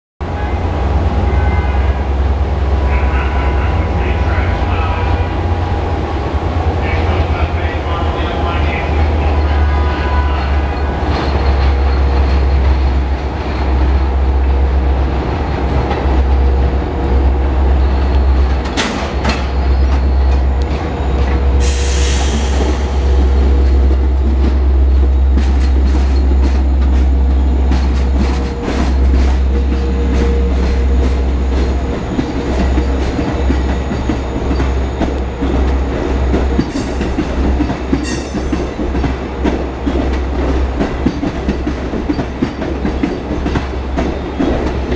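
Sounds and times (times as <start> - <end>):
train deep rumble: 0.2 - 44.9.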